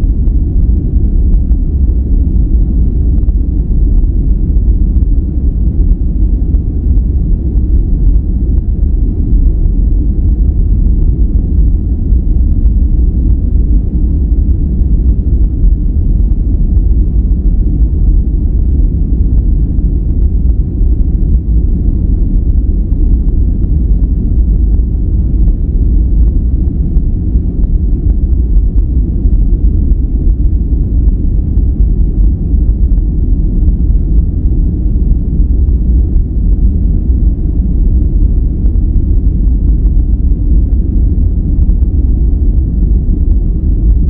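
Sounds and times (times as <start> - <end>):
deep rumbling brown noise: 0.0 - 44.0.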